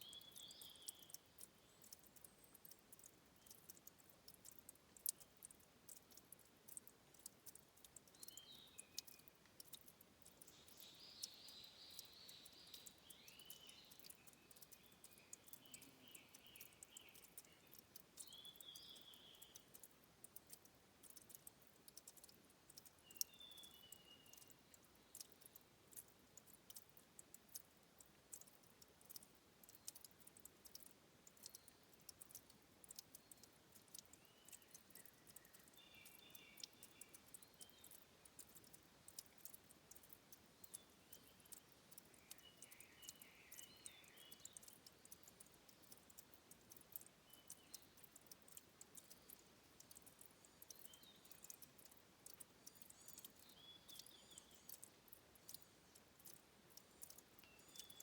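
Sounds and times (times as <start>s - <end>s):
water dripping and trickling: 0.0s - 58.0s.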